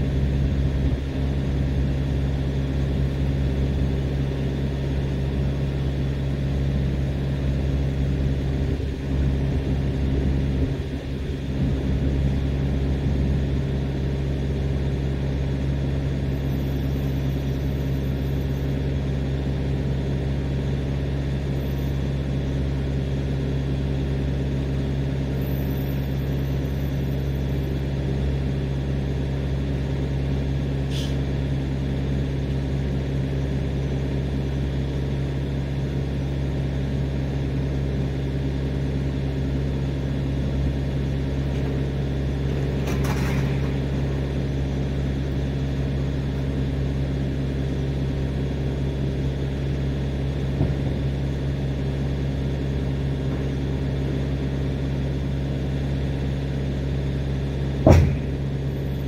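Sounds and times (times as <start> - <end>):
truck engine humming: 0.0 - 59.0.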